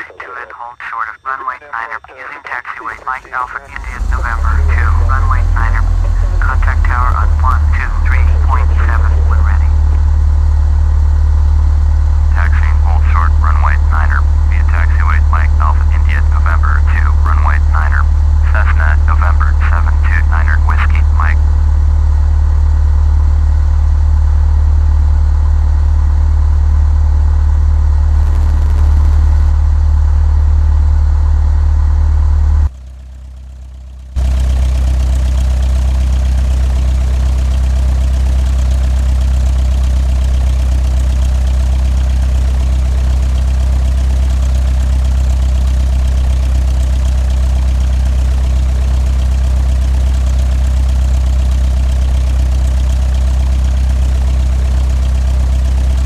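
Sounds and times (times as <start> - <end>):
airplane engine drone in cockpit: 0.0 - 56.0.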